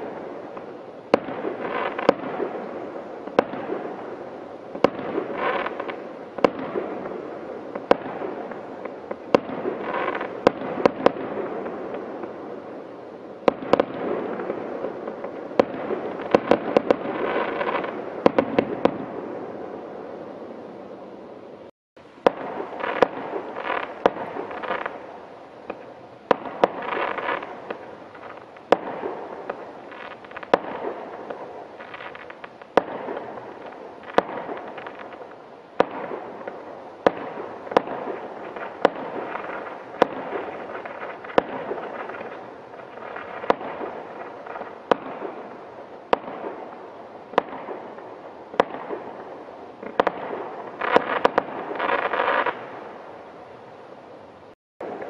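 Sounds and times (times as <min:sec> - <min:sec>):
fireworks bangs: 0:00.0 - 0:53.8
fireworks crackling: 0:00.0 - 0:55.0.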